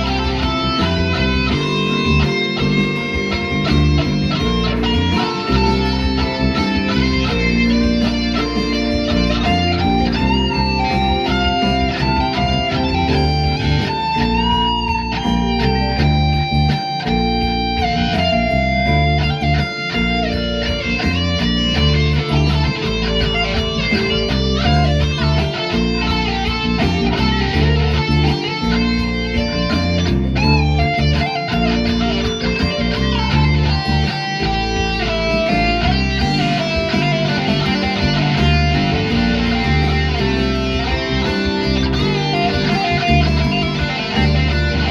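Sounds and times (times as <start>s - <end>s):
bass line: 0.0s - 44.9s
electric guitar melody: 0.0s - 44.9s
steady beat: 0.0s - 44.9s.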